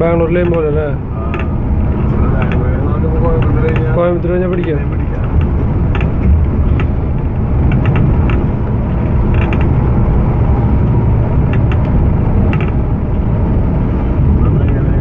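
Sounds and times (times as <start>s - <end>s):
bus engine and road drone: 0.0s - 15.0s
interior rattles and creaks: 0.0s - 15.0s.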